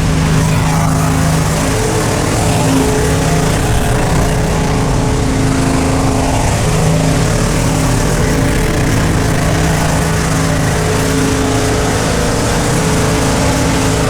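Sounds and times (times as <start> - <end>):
engine running at steady revs: 0.0 - 14.0.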